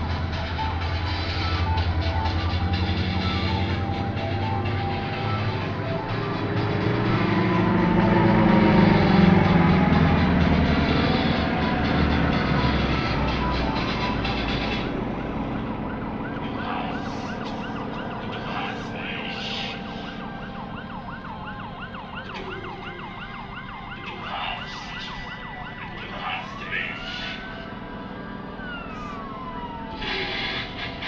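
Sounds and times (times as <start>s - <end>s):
aircraft engines rumbling: 0.0s - 31.0s
electronic siren yelping: 0.0s - 31.0s.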